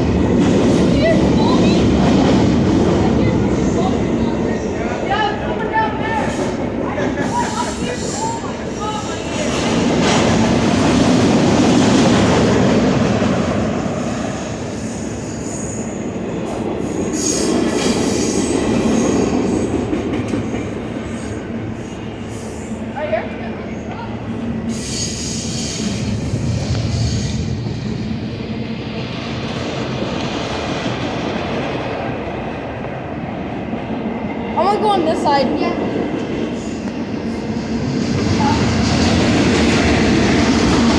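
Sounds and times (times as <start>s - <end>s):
train wheels clattering on rails: 0.0s - 22.2s, 23.9s - 40.9s.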